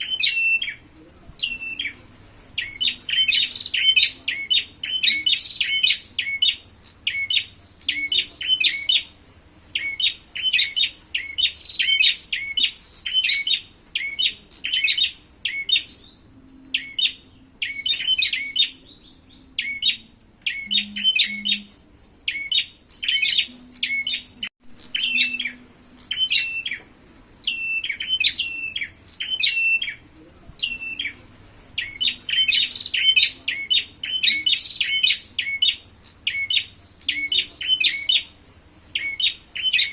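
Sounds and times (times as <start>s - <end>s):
birds chirping sharply: 0.0s - 39.9s.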